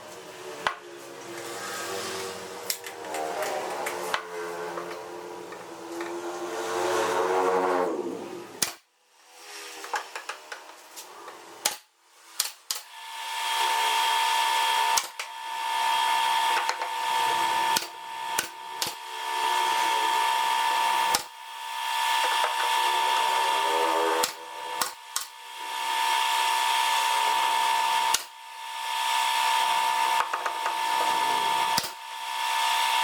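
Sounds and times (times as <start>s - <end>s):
small power tool motor running: 0.1s - 10.5s, 12.8s - 33.0s.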